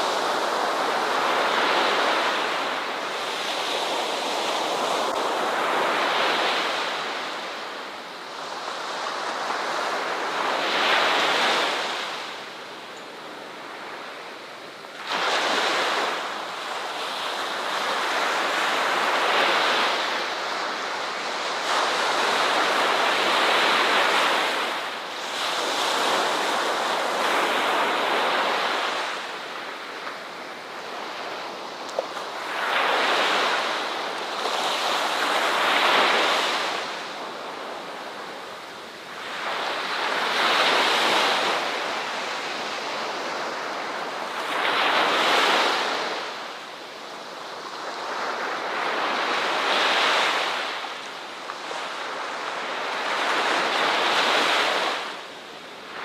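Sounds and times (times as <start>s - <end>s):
waves breaking ashore: 0.0s - 14.2s, 14.8s - 56.0s.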